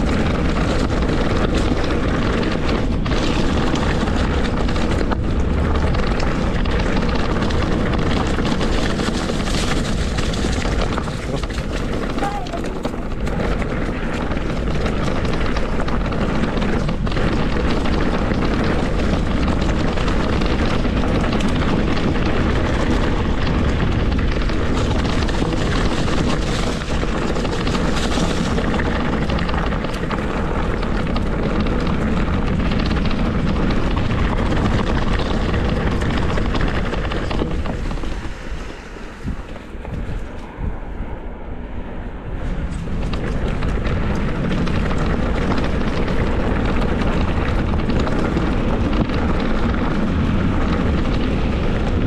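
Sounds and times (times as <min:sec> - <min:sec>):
bike tyres rumbling on trail: 0:00.0 - 0:52.0
wind rushing over microphone: 0:00.0 - 0:52.0.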